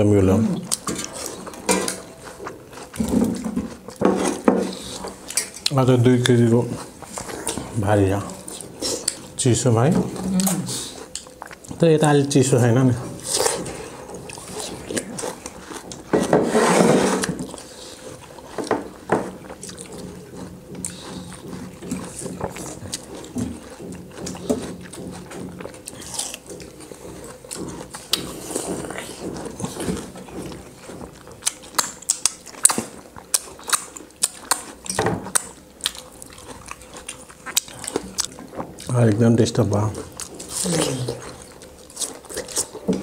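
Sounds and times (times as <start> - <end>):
wet chewing mouth noises: 0.3 - 9.5, 10.1 - 16.3, 17.1 - 43.0.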